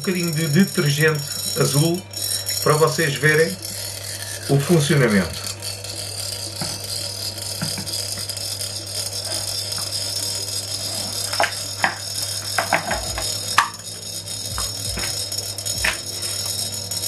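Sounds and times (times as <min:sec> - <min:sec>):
cooling fan humming and whining: 0:00.0 - 0:17.0.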